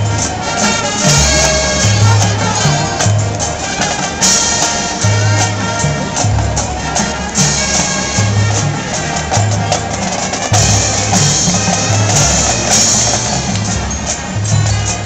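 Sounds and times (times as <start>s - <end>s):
brass chords: 0.0s - 15.0s
low sousaphone notes: 0.0s - 15.0s
marching drums beat: 0.0s - 15.0s.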